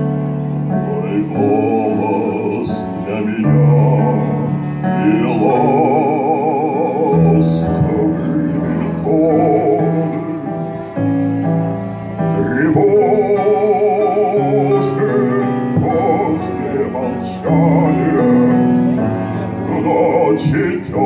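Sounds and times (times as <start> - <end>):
cello and small ensemble: 0.0 - 21.0
man singing operatically: 0.7 - 10.9, 12.4 - 21.0.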